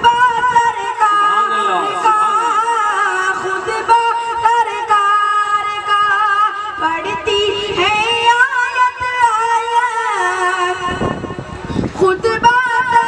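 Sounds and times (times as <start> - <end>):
boy singing unaccompanied: 0.0 - 11.2, 11.8 - 13.0.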